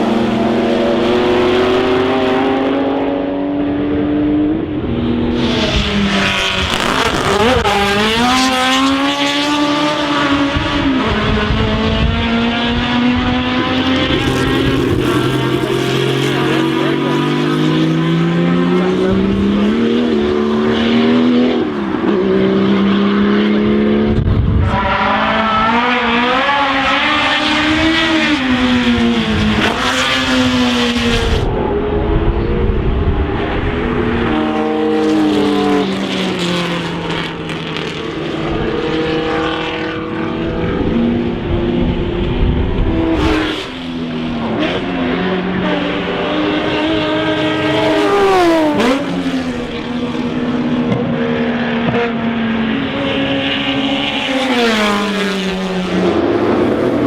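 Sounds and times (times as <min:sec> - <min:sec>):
racing car engines revving: 0:00.0 - 0:57.0.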